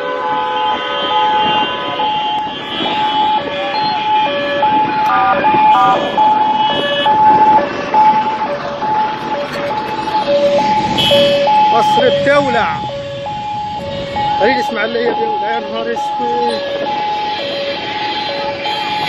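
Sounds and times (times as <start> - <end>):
vehicle horns blaring: 0.0 - 7.5, 9.4 - 12.9, 13.8 - 19.0
two-tone alarm tone: 0.2 - 19.0.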